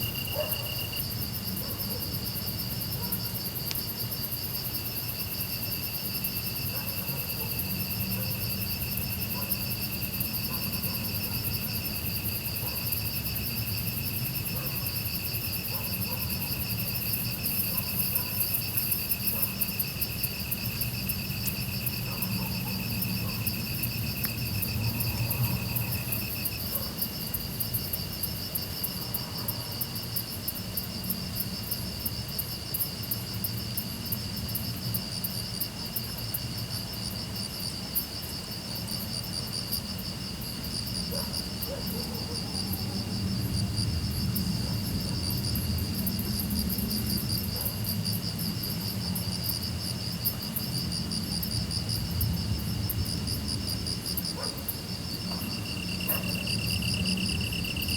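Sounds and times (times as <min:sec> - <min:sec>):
insects chirping: 0:00.0 - 0:57.9.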